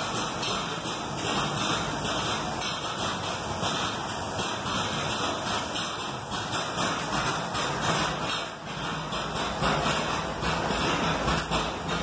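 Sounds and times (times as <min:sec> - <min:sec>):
diaphragm pump exhaust hissing: 0:00.0 - 0:12.0.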